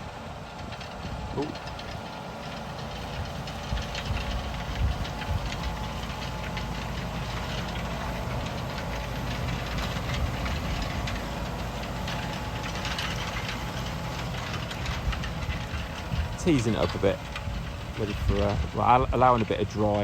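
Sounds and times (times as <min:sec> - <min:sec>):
tractor diesel engine running: 0:00.0 - 0:20.0
cultivator rattling and clattering: 0:00.1 - 0:20.0.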